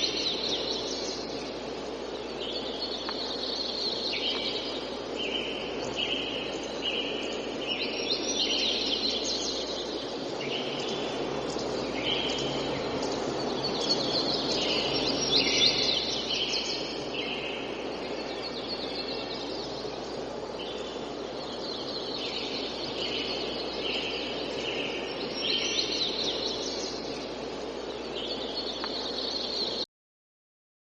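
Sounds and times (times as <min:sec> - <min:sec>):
birds chirping: 0:00.0 - 0:29.8
wind in trees: 0:00.0 - 0:29.8.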